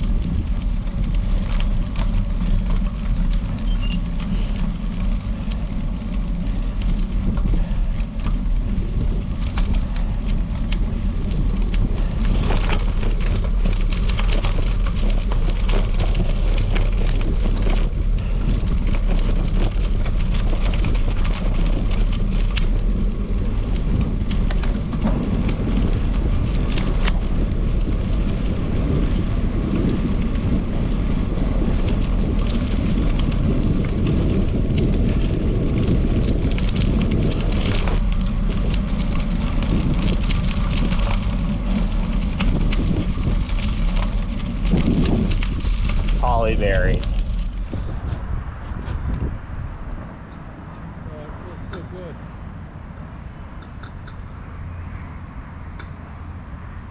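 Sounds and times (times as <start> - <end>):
tyres crackling on gravel: 0.0 - 56.9
wind buffeting microphone: 0.0 - 56.9.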